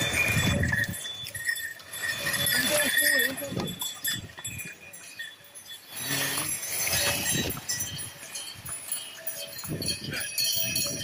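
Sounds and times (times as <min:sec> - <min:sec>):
harness bells clinking: 0:00.0 - 0:11.0
hooves on stony trail: 0:00.0 - 0:11.0.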